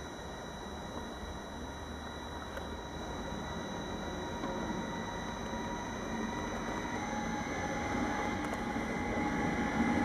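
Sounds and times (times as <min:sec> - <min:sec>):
electric locomotive rumbling on rails: 0:00.0 - 0:10.0.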